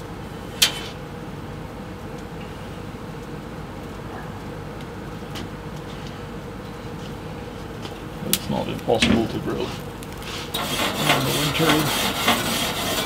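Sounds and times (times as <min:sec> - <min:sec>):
mechanical rumble and hum: 0:00.0 - 0:13.0.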